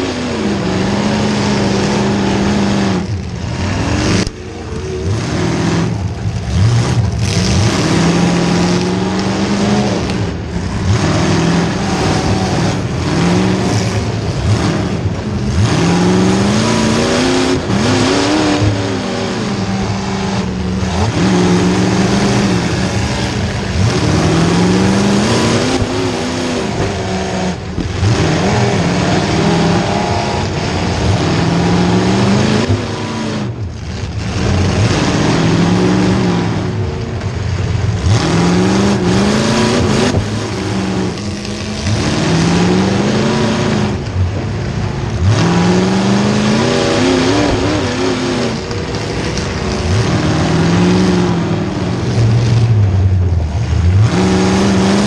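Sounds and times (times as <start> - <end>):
engine revving hard: 0.0 - 55.0.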